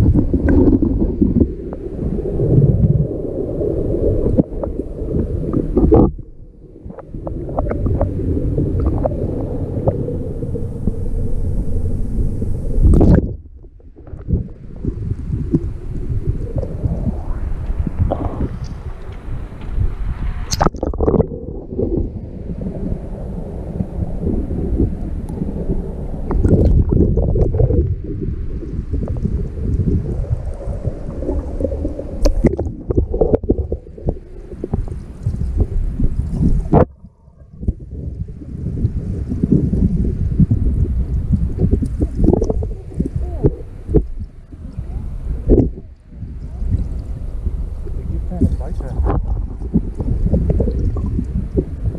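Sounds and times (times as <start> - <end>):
underwater water flowing rumble: 0.0 - 51.9
wind on microphone: 0.0 - 51.9.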